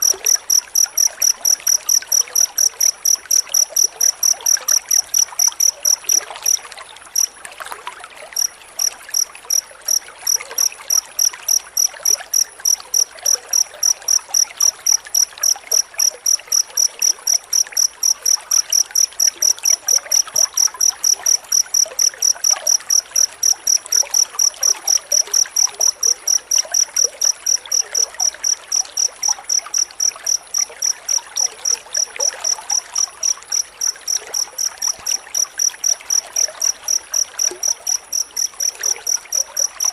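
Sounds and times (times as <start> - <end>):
cricket chirping: 0.0 - 7.4, 8.0 - 39.9.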